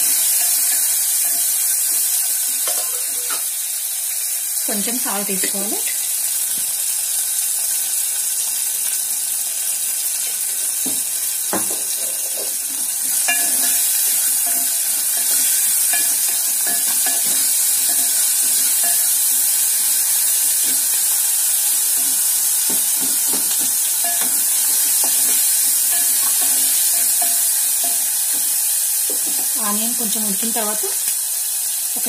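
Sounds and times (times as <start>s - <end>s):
onions sizzling in hot oil: 0.0s - 32.0s.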